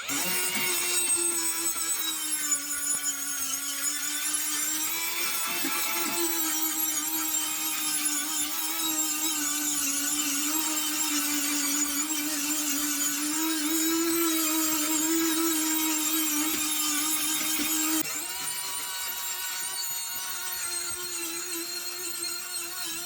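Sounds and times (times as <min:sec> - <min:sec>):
power tool motor whine: 0:00.0 - 0:23.0.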